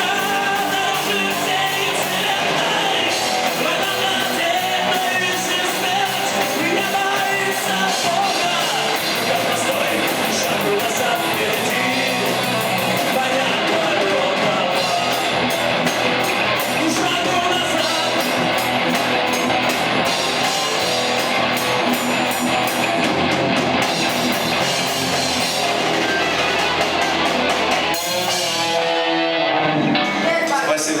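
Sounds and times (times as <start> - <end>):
drum kit: 0.0 - 31.0
electric guitar: 0.0 - 31.0.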